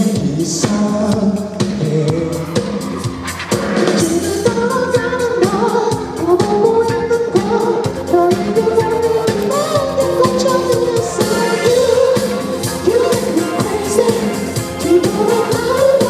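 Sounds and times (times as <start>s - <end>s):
man singing: 0.0s - 3.2s, 3.9s - 16.0s
band with drum beat: 0.0s - 16.0s.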